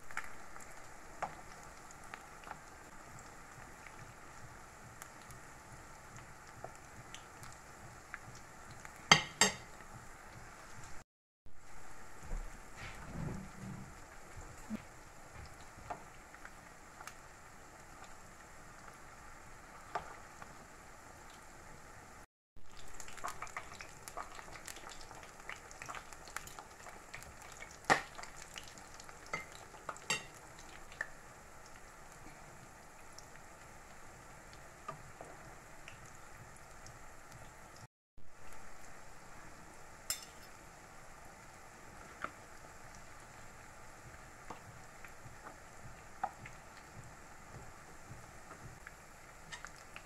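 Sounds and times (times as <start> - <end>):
oil crackling sizzle: 0.0 - 50.0.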